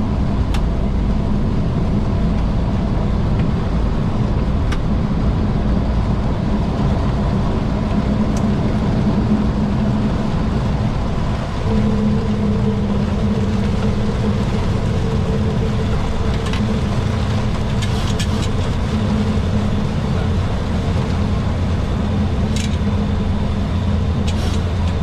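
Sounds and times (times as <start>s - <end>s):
engine and airflow rush: 0.0s - 25.0s
steady hum: 0.0s - 25.0s.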